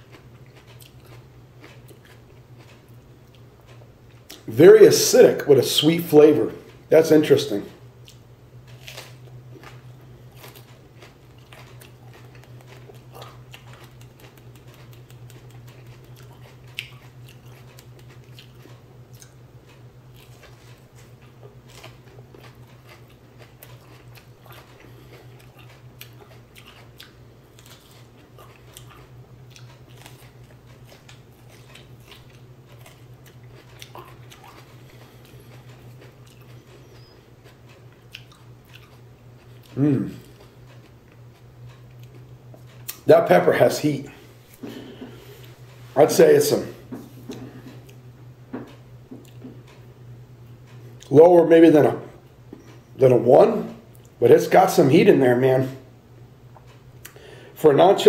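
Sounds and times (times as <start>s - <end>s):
person biting and chewing pepper: 0.0s - 6.0s, 6.6s - 49.9s
steady low hum: 0.0s - 58.0s.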